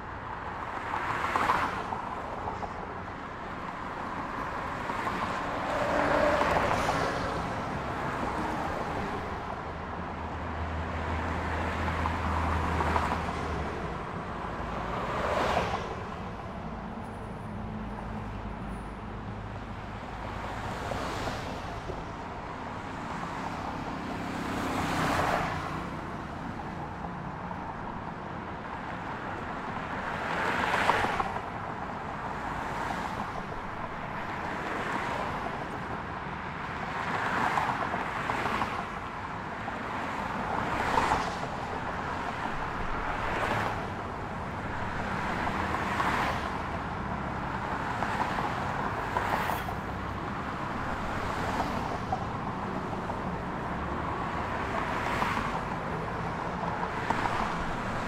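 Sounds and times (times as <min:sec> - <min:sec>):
background traffic noise: 0:00.0 - 0:58.0
cars passing by: 0:00.0 - 0:58.0.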